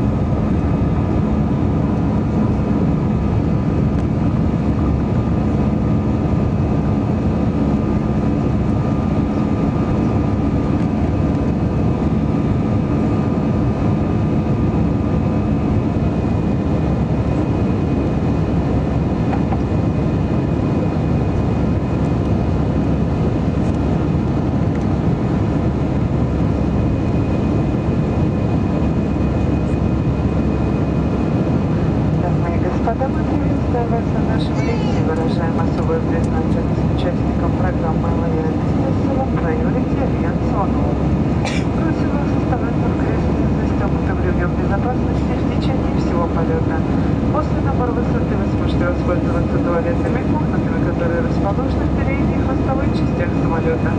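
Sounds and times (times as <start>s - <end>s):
jet engine roar in cabin: 0.0s - 53.9s.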